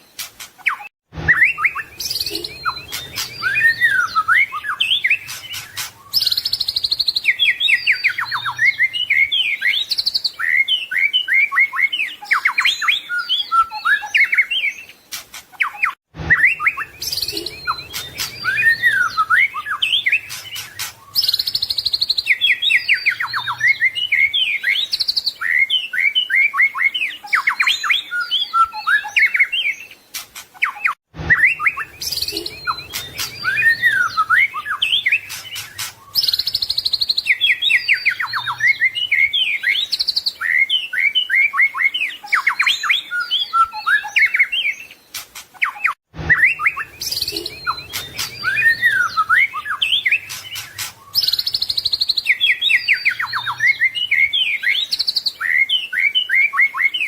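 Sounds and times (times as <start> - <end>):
songbird singing varied song: 0.0 - 57.0.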